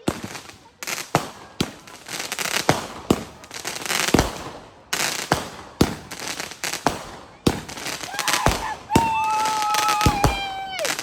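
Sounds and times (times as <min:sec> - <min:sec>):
firework bangs: 0:00.0 - 0:11.0
firework crackling: 0:00.0 - 0:11.0.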